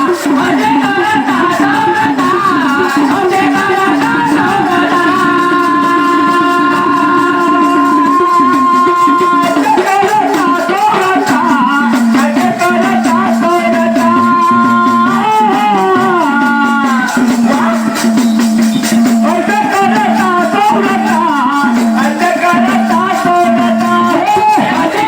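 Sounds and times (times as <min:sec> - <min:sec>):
person singing devotional song: 0:00.0 - 0:25.0
shaken rattle percussion: 0:00.0 - 0:25.0.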